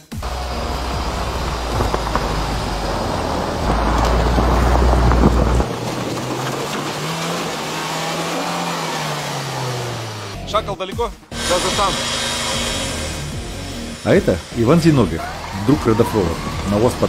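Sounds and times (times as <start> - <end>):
car engine running: 0.0 - 10.4, 11.3 - 17.0
tyres on snow: 0.0 - 10.4, 11.4 - 17.0.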